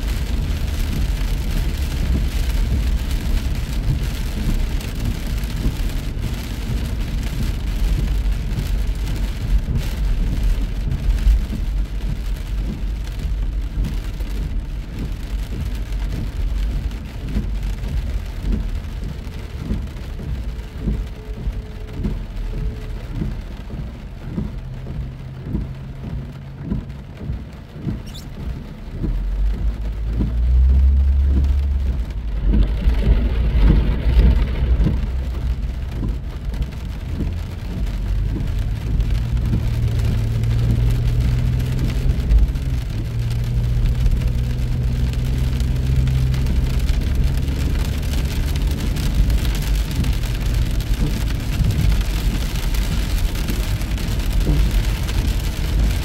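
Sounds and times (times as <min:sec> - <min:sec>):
rain hissing: 0:00.0 - 0:56.0
vehicle engine rumble: 0:00.0 - 0:56.0
wet road noise: 0:00.0 - 0:56.0.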